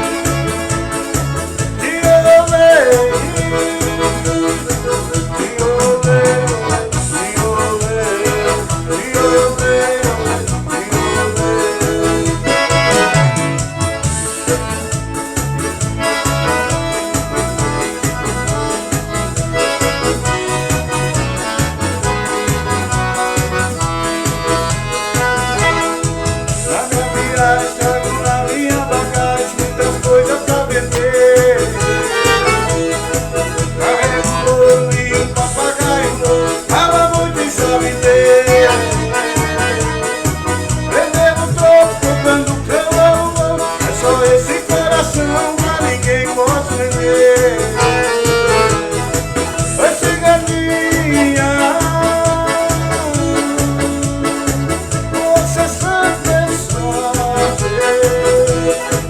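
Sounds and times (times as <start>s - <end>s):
accordion: 0.0s - 59.0s
band playing live: 0.0s - 59.0s
steady bass beat: 0.0s - 59.0s.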